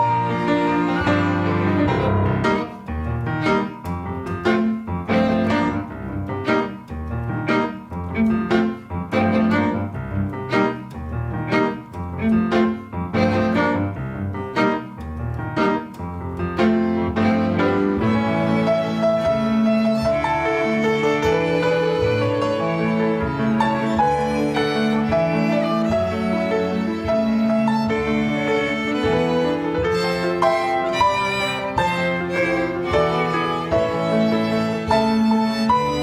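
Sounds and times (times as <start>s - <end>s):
bowed strings: 0.0s - 36.0s
double bass line: 0.0s - 36.0s
piano chords: 0.0s - 36.0s.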